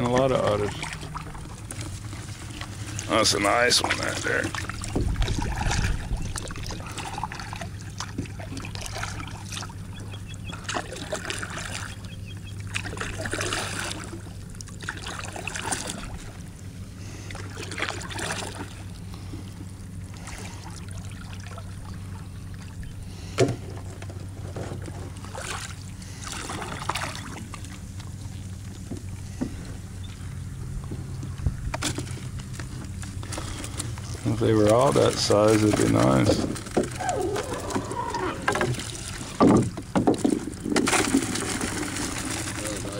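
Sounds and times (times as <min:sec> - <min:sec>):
boat motor humming: 0:00.0 - 0:42.9.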